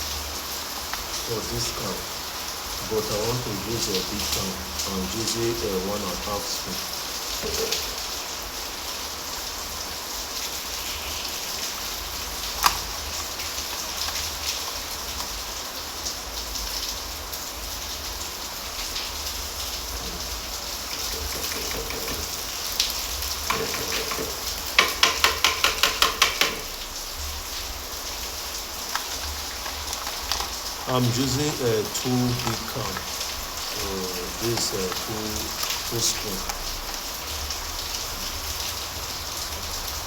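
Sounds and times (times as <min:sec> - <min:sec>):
steady hiss: 0:00.0 - 0:40.0.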